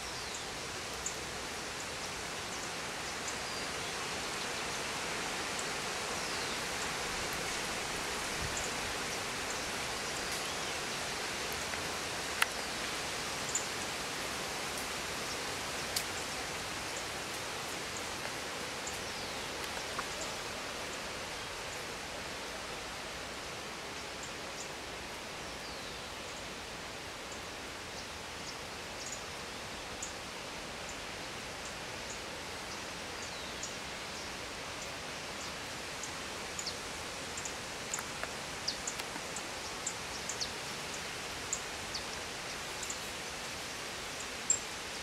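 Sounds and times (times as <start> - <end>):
steady outdoor hiss: 0.0 - 45.0.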